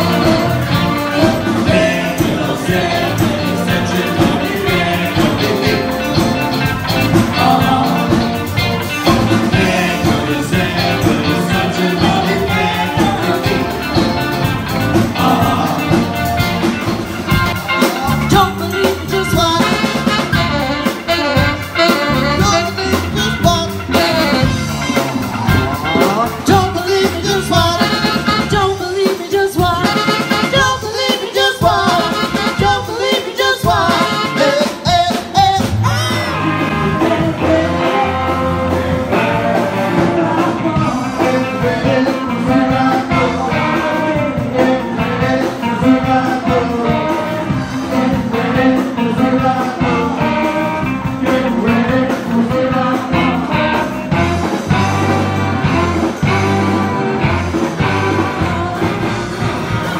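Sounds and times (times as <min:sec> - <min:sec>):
person singing lead vocals: 0:00.0 - 0:17.0, 0:17.6 - 0:59.9
funk rock band playing: 0:00.0 - 0:59.9
saxophone: 0:00.0 - 0:59.9.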